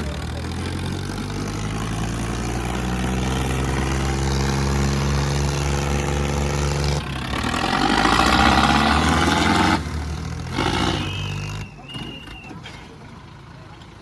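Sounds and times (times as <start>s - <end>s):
tractor engines under heavy load: 0.0s - 14.0s.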